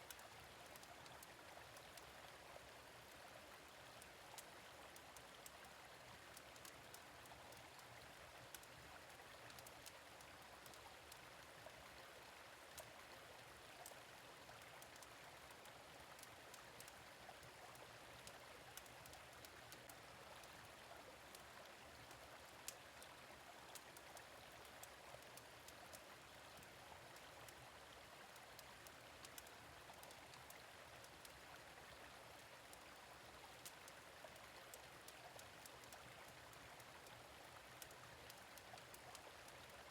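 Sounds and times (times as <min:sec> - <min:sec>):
gentle stream running: 0:00.0 - 0:39.9.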